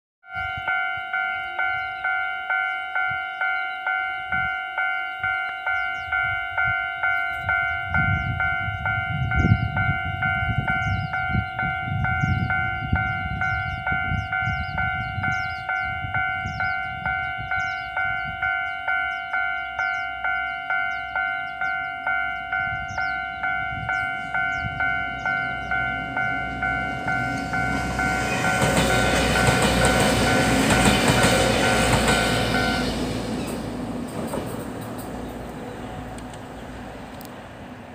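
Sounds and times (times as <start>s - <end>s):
level crossing warning bell: 0.2s - 34.0s
diesel train approaching: 0.2s - 37.9s.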